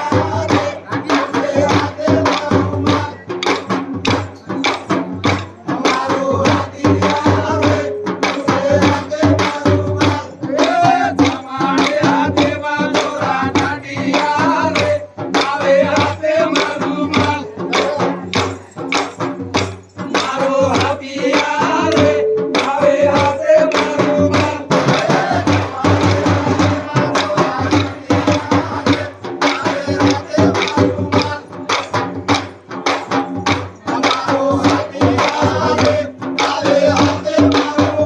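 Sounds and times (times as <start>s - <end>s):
men singing folk song: 0.0s - 3.7s, 5.2s - 18.8s, 20.0s - 38.0s
drum beat: 0.0s - 38.0s.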